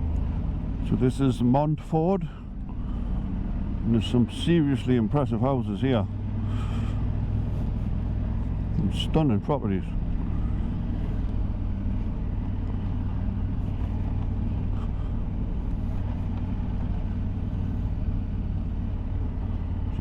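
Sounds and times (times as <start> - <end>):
motorcycle engine rumble: 0.0 - 20.0.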